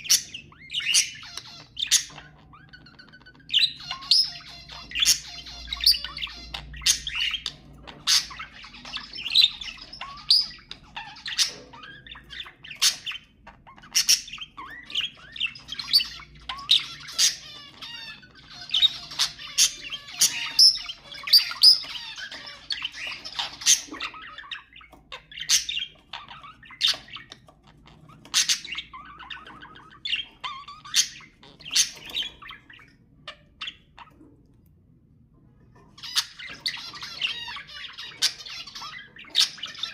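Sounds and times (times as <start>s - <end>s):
budgerigars chattering: 0.0s - 34.3s, 35.9s - 39.9s
bird squawks and chirps: 0.0s - 34.4s, 35.7s - 39.9s.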